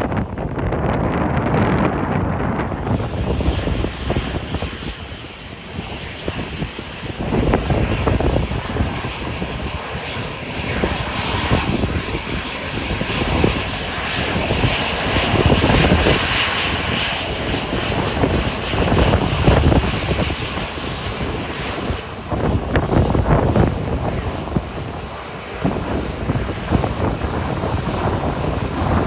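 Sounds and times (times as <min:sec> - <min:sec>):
jet engines at take-off power: 0:00.0 - 0:29.0
wind buffeting microphone: 0:00.0 - 0:29.0.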